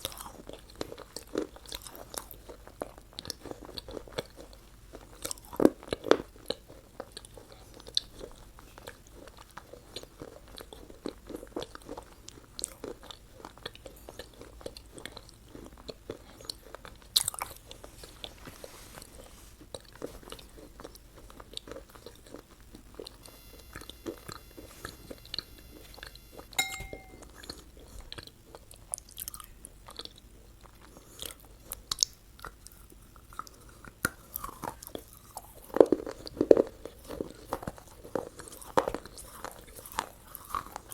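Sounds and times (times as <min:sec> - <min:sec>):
chewing and biting food: 0:00.0 - 0:18.4, 0:19.0 - 0:26.5, 0:27.4 - 0:40.9.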